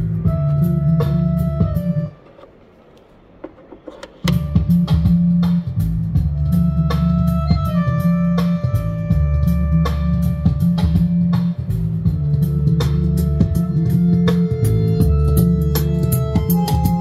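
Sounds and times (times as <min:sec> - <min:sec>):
rock music through speakers: 0:00.0 - 0:02.1, 0:04.2 - 0:17.0.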